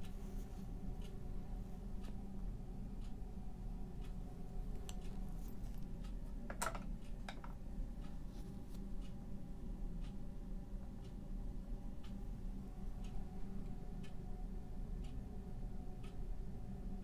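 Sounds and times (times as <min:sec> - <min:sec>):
clock ticking: 0:00.0 - 0:08.2, 0:08.8 - 0:17.0
low room hum: 0:00.0 - 0:17.0.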